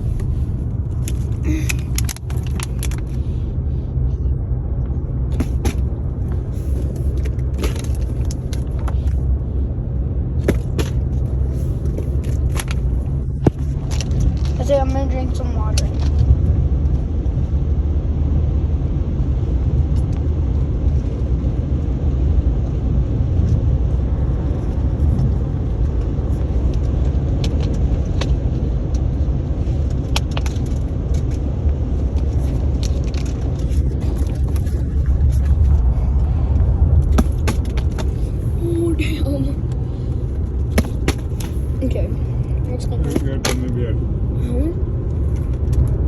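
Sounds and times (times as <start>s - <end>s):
car cabin rumble: 0.0s - 46.0s.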